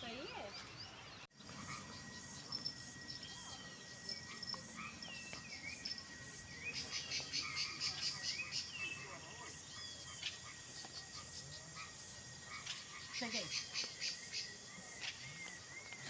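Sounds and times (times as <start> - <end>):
high insect whine: 0.0 - 16.0
pulsing insect trill: 0.0 - 16.0.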